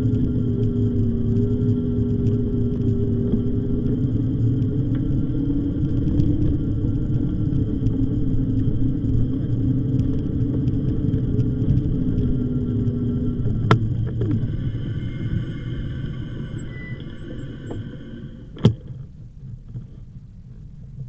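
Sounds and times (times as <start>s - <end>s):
bicycle tyre noise: 0.0s - 18.8s
low two-note hum: 0.0s - 21.0s
wind on microphone: 0.0s - 21.0s.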